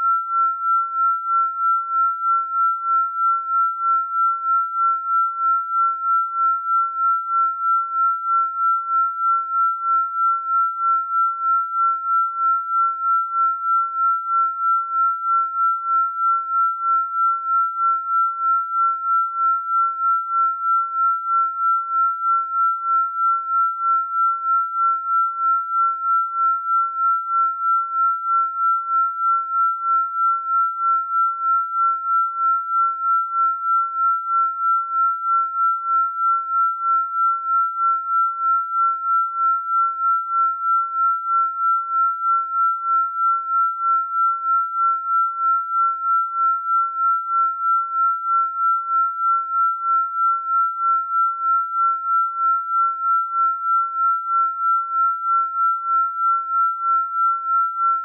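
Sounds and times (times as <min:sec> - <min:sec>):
pulsing high sine tone: 0:00.0 - 0:58.0.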